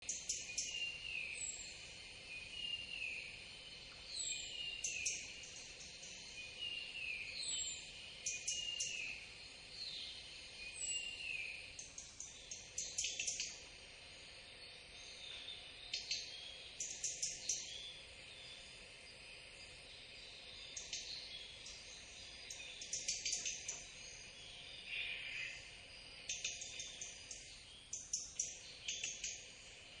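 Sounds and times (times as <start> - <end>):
small birds chirping: 0.0 - 30.0
steady high hiss: 0.1 - 30.0.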